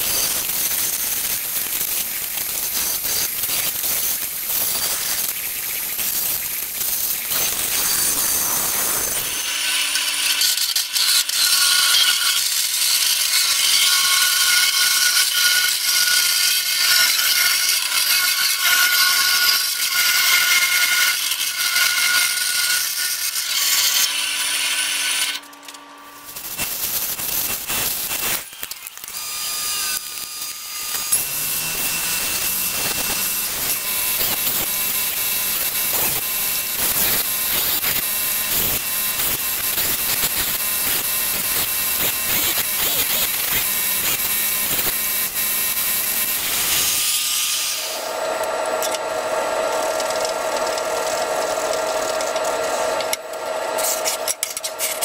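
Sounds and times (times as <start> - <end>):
bandsaw cutting steel: 0.0 - 55.0.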